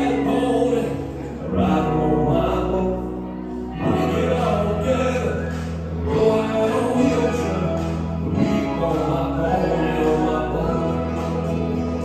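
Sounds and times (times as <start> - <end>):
song with sung vocals: 0.0 - 12.0.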